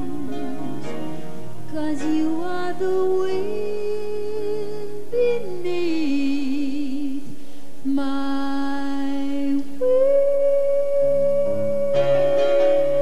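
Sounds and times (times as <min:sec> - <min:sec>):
woman singing a slow ballad: 0:00.0 - 0:00.9, 0:01.6 - 0:12.0
instrumental backing: 0:00.0 - 0:07.9, 0:08.8 - 0:13.0.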